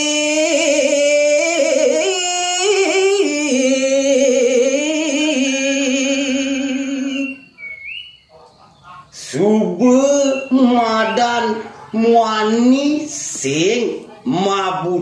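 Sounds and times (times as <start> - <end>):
man chanting unaccompanied: 0.0 - 7.4, 8.9 - 15.0.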